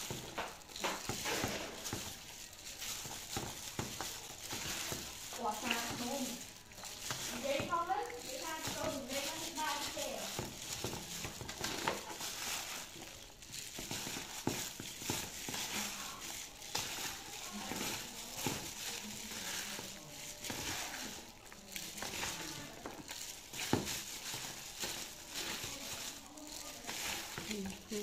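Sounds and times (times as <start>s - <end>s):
noodles squishing wetly: 0.0s - 28.0s
plastic bag crinkling: 0.0s - 28.0s.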